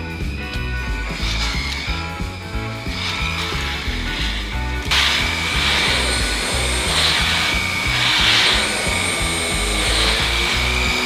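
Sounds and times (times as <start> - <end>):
background music with bass beat: 0.0 - 11.0
stick vacuum running: 0.2 - 11.0.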